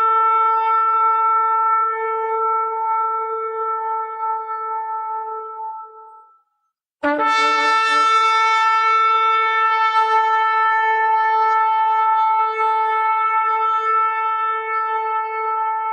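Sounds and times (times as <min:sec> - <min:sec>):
shofar blast: 0:00.0 - 0:06.3, 0:07.0 - 0:15.9.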